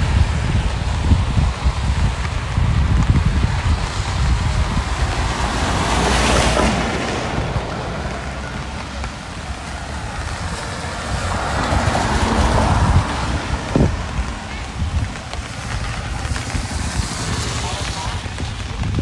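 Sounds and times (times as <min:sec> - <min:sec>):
rain hiss: 0:00.0 - 0:19.0
vehicle tyres swishing past: 0:00.0 - 0:19.0
wind rumble on microphone: 0:00.0 - 0:19.0.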